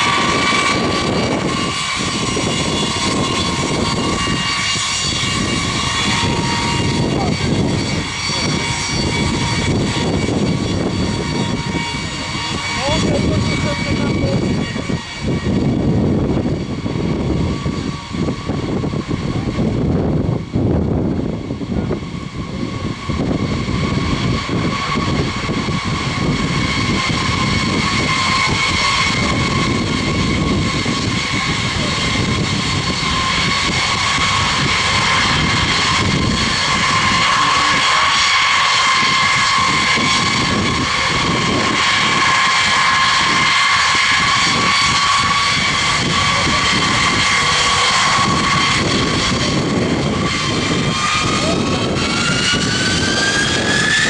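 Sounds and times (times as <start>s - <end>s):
jet engines whining and rumbling: 0.0s - 54.0s.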